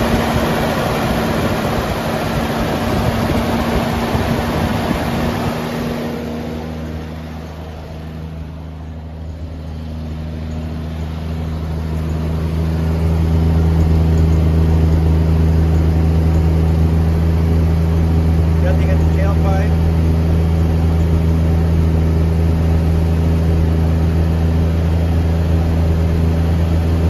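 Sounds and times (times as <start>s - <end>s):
engine idling: 0.0s - 27.0s
low exhaust note: 0.0s - 27.0s.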